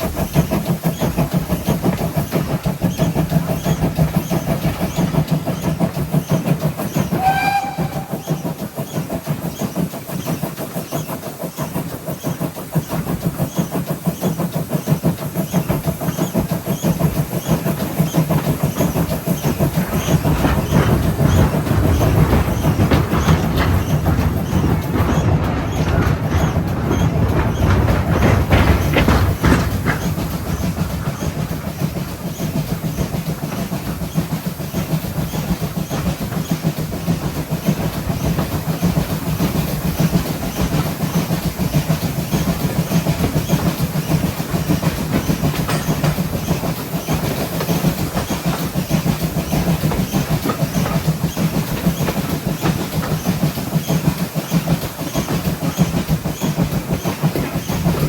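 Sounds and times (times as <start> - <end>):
train wheels clickety-clack on rails: 0.0 - 58.0.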